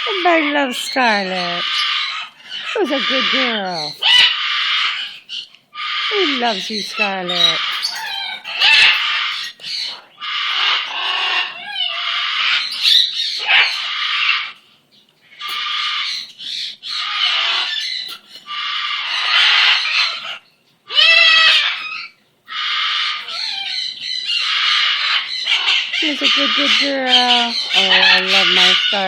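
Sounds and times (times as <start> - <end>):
parrot pitched call: 0.0 - 14.6, 15.2 - 29.0
parrot squawking: 0.0 - 29.0.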